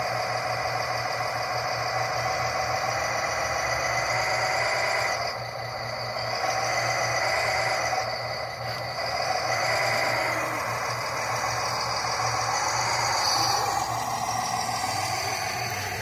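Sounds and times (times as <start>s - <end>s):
model vehicle motor hum and whine: 0.0s - 16.0s.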